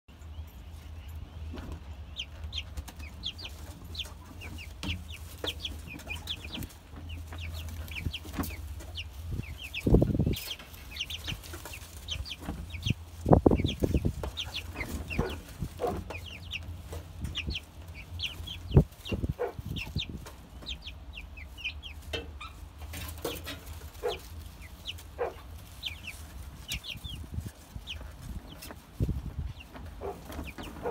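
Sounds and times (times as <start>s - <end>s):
chicks peeping and chirping: 0.1s - 30.9s.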